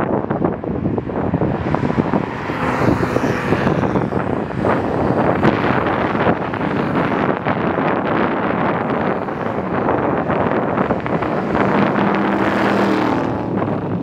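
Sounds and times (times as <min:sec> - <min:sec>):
wind noise on microphone: 0:00.0 - 0:14.0
race cars driving past: 0:00.8 - 0:14.0.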